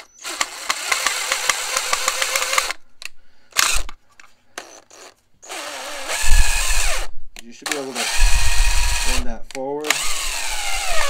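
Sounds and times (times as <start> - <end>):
cordless drill driving a screw: 0.0 - 2.8, 3.6 - 3.9, 4.6 - 11.0.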